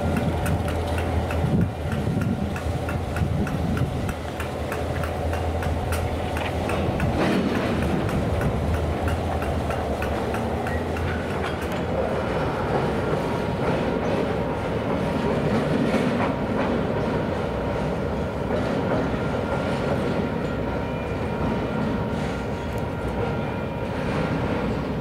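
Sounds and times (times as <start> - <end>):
wheels clicking over rails: 0.0 - 20.7
train rumbling along track: 0.0 - 25.0.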